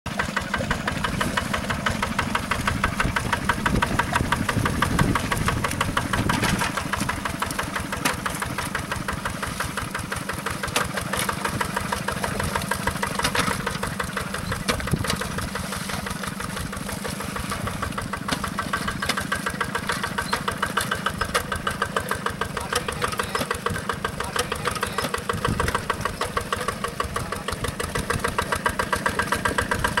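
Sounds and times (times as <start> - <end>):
tractor engine chugging: 0.1 - 30.0.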